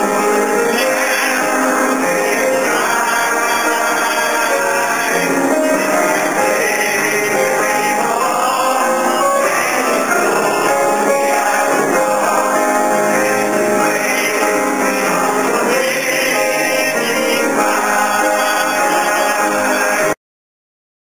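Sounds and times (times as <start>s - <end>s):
instrumental accompaniment: 0.0s - 20.2s
man singing gospel song: 0.6s - 20.2s.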